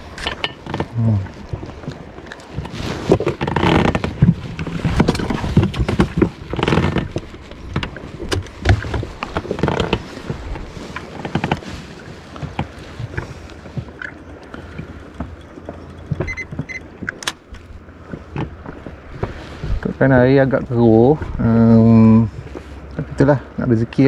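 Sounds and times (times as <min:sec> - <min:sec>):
water slapping against rubber boat: 0:00.0 - 0:24.0.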